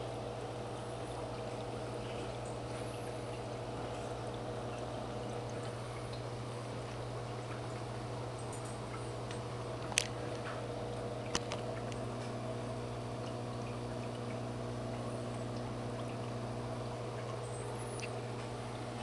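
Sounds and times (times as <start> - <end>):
aquarium filter humming: 0.0 - 19.0
water pouring and trickling: 0.0 - 19.0.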